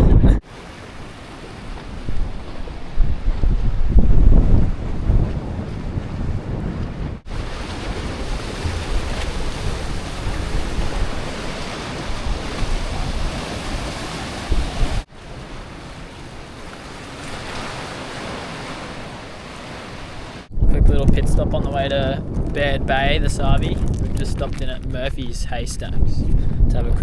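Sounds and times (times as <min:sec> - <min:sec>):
ocean waves washing against rocks: 0:00.0 - 0:20.5, 0:21.2 - 0:25.4
wind buffeting microphone: 0:00.0 - 0:27.0.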